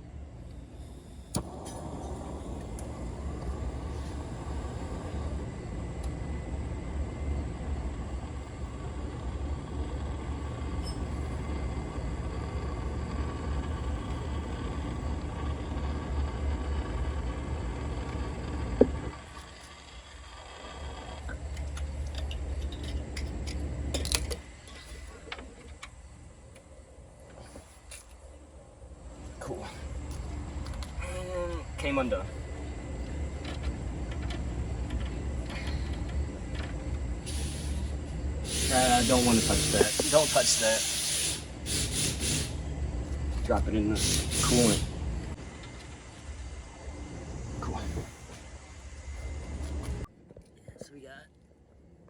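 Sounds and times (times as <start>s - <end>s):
heat tool hissing and rumbling: 0.0s - 50.1s.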